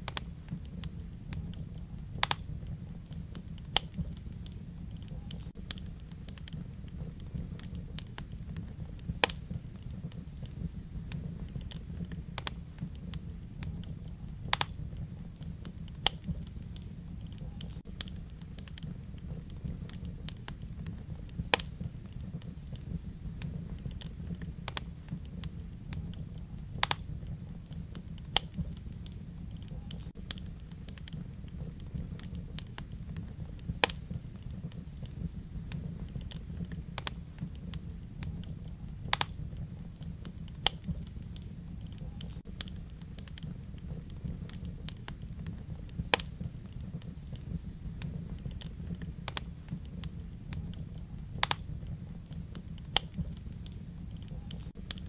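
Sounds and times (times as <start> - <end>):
fire rumbling: 0.0 - 55.0
logs crackling and popping: 0.0 - 55.0.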